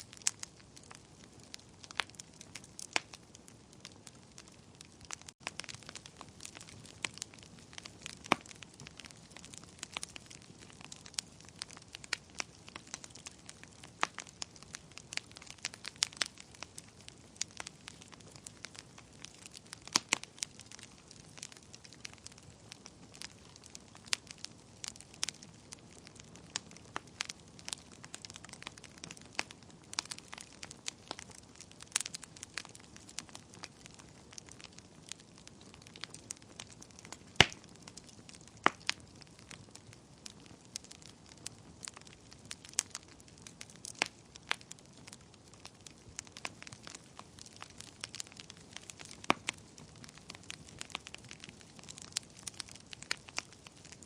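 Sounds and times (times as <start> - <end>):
soft steady hiss: 0.0 - 54.0
wood fire crackling: 0.0 - 54.0.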